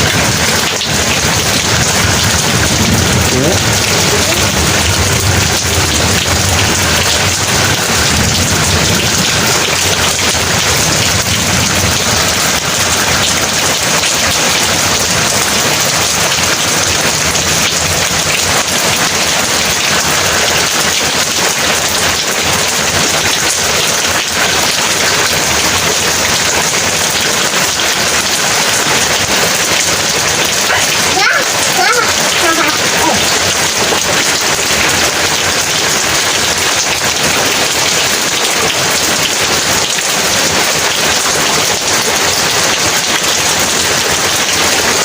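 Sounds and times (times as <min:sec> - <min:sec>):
thunder rumbling: 0:00.0 - 0:36.6
heavy rain pouring: 0:00.0 - 0:45.0.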